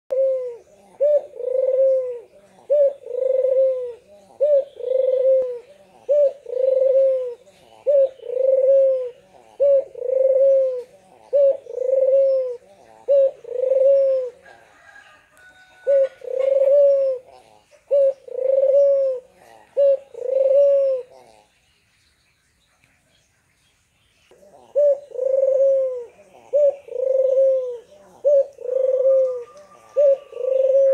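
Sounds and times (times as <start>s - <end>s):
dove cooing: 0.1s - 21.6s, 24.3s - 30.9s.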